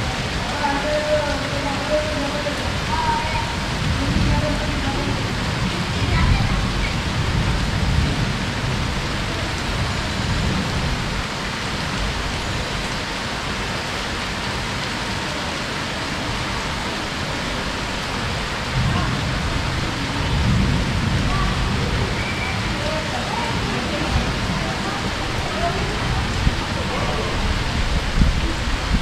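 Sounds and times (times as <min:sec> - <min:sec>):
low rumbles: 0:00.0 - 0:13.7, 0:16.0 - 0:29.0
heavy rain falling: 0:00.0 - 0:29.0.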